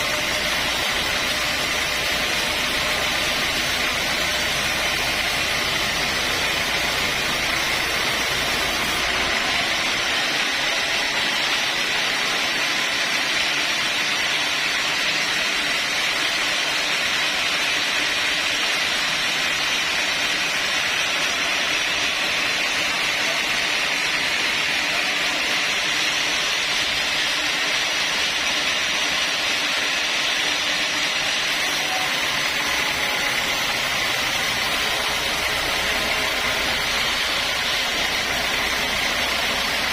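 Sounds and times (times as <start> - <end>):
sawmill saw cutting timber: 0.0 - 39.9.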